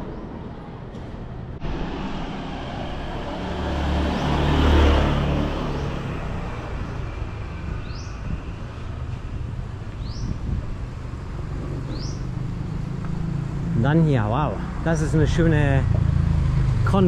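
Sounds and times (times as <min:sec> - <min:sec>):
motor vehicle passing by: 0:01.4 - 0:17.0.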